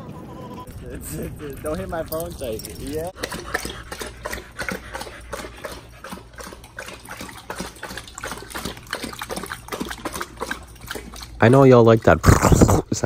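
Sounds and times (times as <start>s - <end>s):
dogs lapping water: 0.0s - 13.0s.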